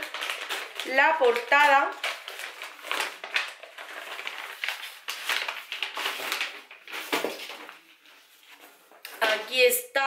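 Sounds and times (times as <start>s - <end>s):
paper envelope being opened: 0.0s - 9.2s
catalogue rustling and crinkling: 0.0s - 9.8s.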